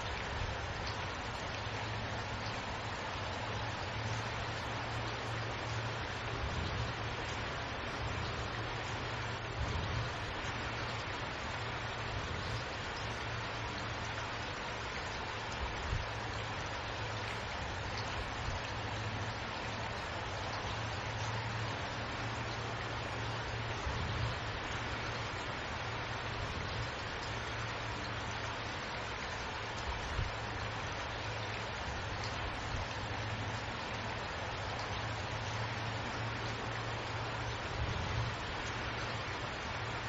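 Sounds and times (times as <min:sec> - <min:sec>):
raindrops: 0:00.0 - 0:40.0
steady rain hiss: 0:00.0 - 0:40.0.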